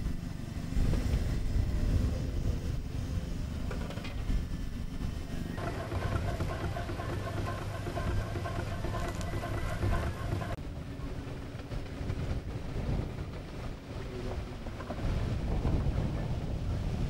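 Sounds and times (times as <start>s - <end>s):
steam engine running: 0.0s - 17.0s
steam wagon driving on gravel: 0.1s - 17.0s.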